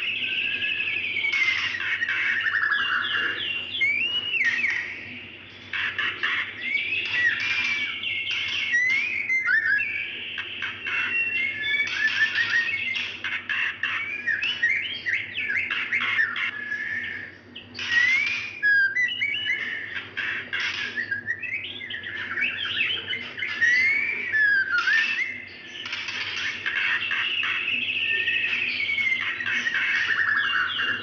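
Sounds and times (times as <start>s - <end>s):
bird whistled calls: 0.0s - 31.0s.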